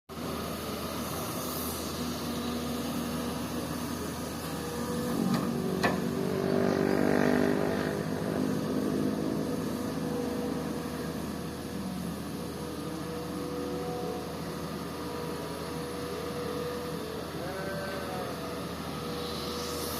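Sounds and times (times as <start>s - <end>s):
excavator diesel engine running: 0.1s - 19.9s.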